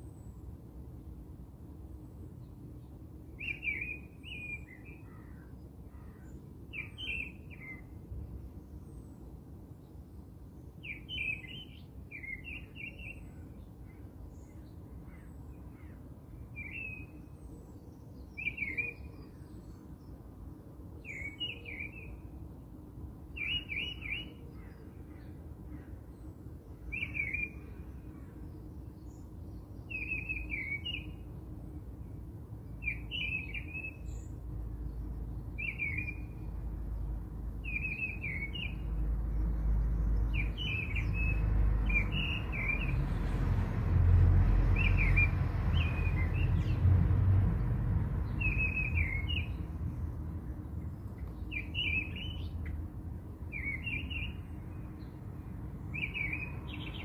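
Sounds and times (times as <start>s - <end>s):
bird chirping song: 0.0s - 43.6s, 44.3s - 57.0s.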